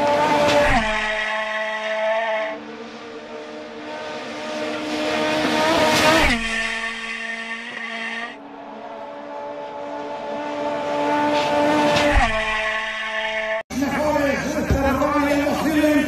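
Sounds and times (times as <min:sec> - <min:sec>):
rally car engine passing: 0:00.0 - 0:16.0.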